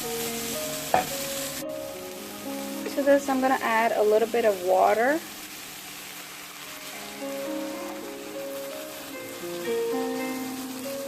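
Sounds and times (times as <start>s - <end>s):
background music melody: 0.0s - 11.0s
curry sizzling in pan: 0.0s - 11.0s.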